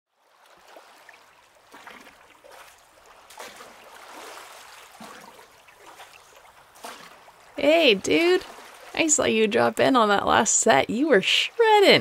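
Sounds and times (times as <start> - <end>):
ocean waves washing onto shore: 0.2 - 12.0.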